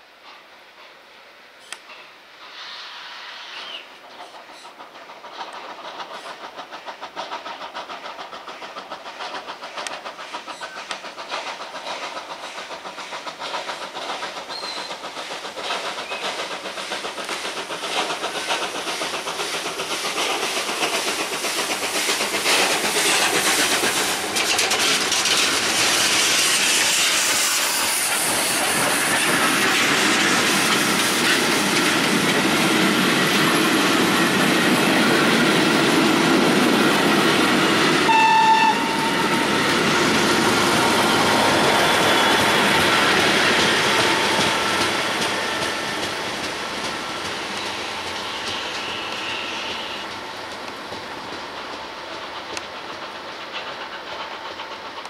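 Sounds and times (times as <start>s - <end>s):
steam locomotive exhaust beats: 0.1s - 55.0s.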